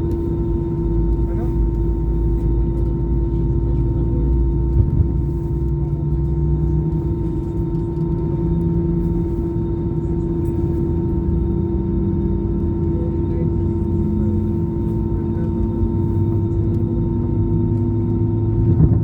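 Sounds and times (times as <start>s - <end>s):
airplane cabin engine drone: 0.0s - 19.0s
low rumble: 0.0s - 19.0s.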